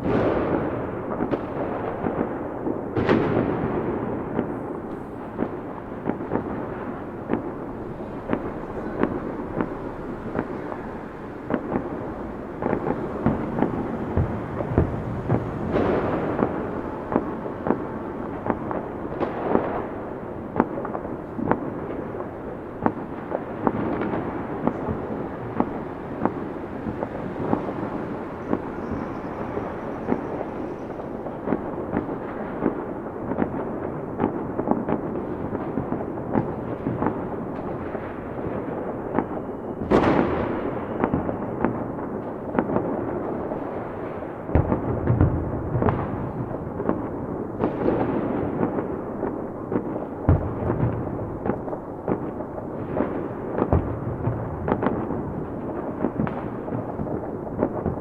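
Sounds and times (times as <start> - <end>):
deep fireworks booms: 0.0 - 58.0
fireworks bangs: 0.0 - 58.0
fireworks crackling and popping: 0.0 - 58.0.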